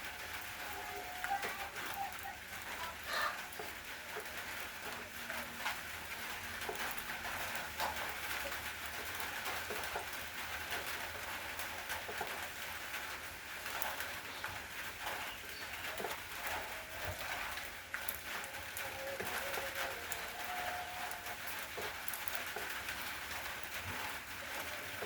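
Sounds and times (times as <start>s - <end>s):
rain hissing: 0.0s - 25.0s
raindrops ticking: 0.0s - 25.0s.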